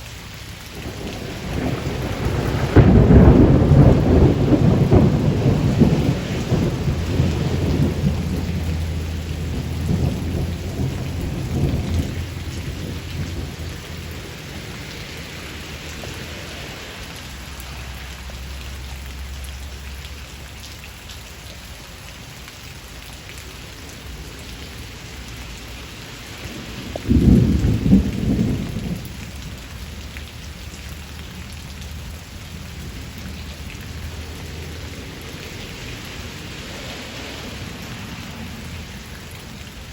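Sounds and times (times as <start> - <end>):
steady rain shower: 0.0 - 39.9
low rumble of thunder: 0.7 - 19.6, 23.4 - 39.9.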